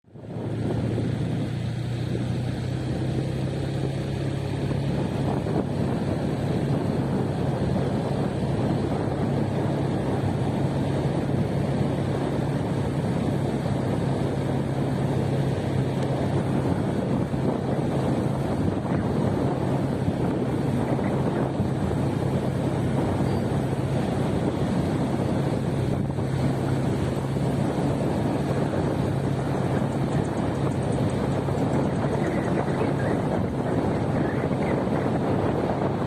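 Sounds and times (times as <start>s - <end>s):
continuous rushing noise: 0.0s - 36.0s
vehicle engine hum: 0.0s - 36.0s.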